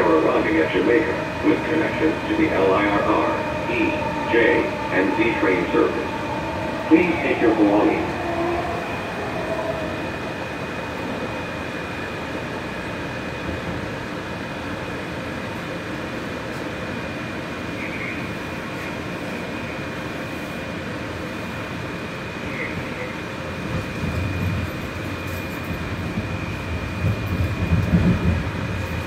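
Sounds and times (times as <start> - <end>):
train rolling rumble: 0.0 - 29.0.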